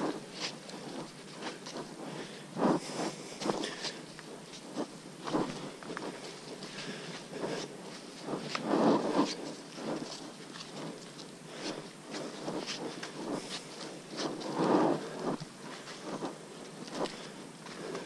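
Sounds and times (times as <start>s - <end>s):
clothes and gear rustling: 0.0s - 18.0s
footsteps crunching on forest trail: 0.0s - 18.0s.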